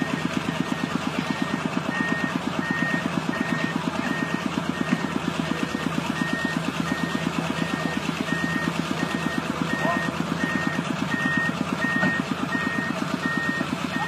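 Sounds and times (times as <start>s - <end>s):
diesel engine running: 0.0s - 14.0s
travel alarm beeping: 0.0s - 14.0s.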